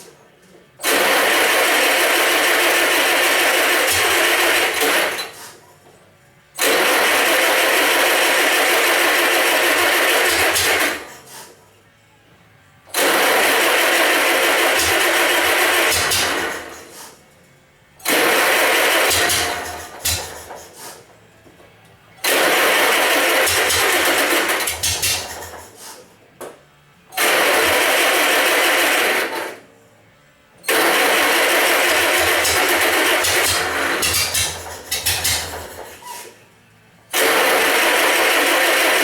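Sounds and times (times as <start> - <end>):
engine cranking by starter: 0.8 - 5.6, 6.6 - 11.6, 12.9 - 17.2, 18.0 - 21.2, 22.2 - 26.1, 27.1 - 29.7, 30.6 - 36.4, 37.1 - 39.0.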